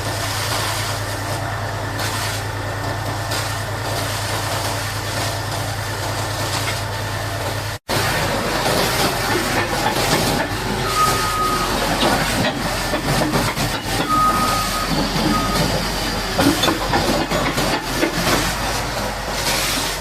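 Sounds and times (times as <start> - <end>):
high-pressure water jet hissing: 0.0 - 20.0.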